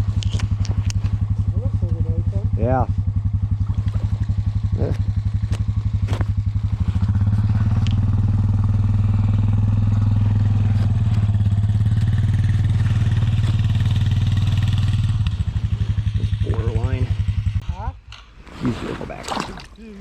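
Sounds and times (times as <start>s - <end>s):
small engine idling: 0.0s - 17.9s.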